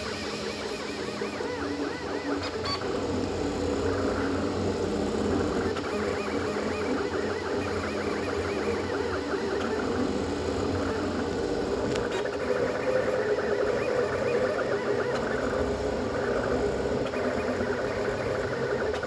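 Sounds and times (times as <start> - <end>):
steady hum: 0.0 - 19.0
stepper motors whining: 0.0 - 19.0.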